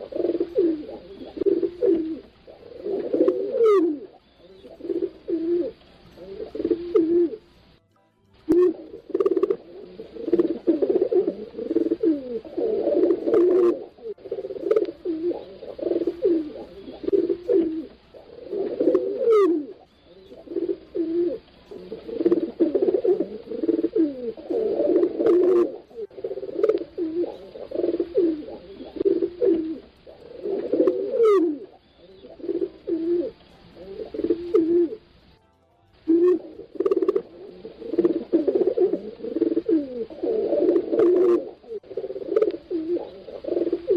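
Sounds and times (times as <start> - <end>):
pigeons cooing: 0.0 - 7.8, 8.5 - 35.3, 36.1 - 43.9.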